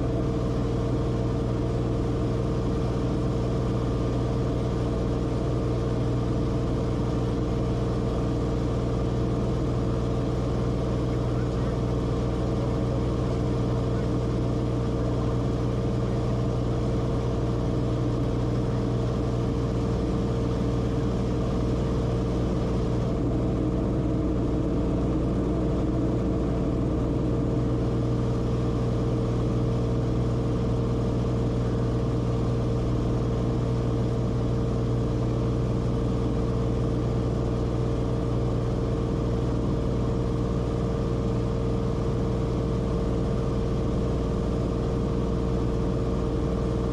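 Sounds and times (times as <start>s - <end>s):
propeller plane engine drone: 0.0s - 46.9s.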